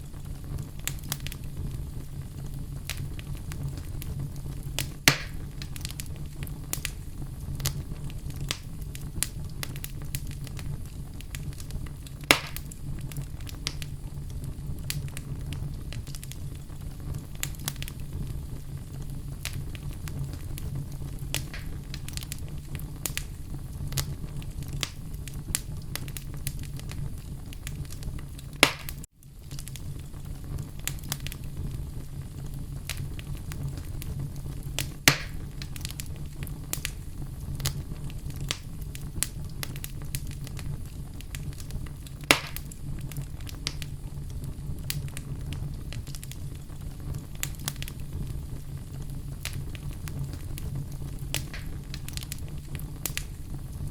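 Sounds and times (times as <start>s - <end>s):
fire crackling in fireplace: 0.0s - 53.9s
sharp pops of fire: 0.0s - 53.9s.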